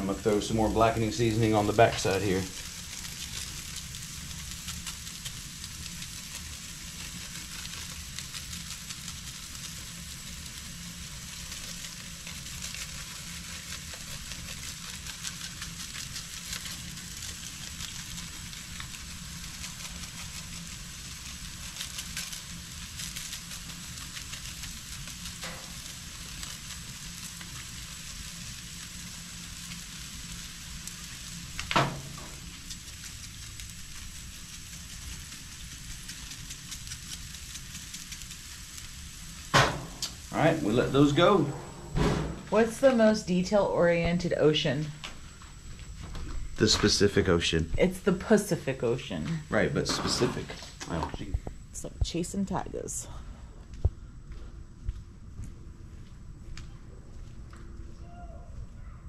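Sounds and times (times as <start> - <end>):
fish sizzling on a grill: 0.0 - 53.0.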